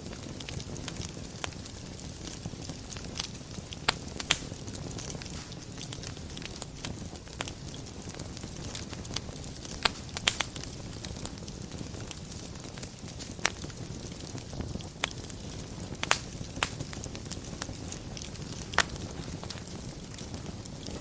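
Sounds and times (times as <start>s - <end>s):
rush of flames: 0.0s - 21.0s
wood fire crackling and popping: 0.0s - 21.0s.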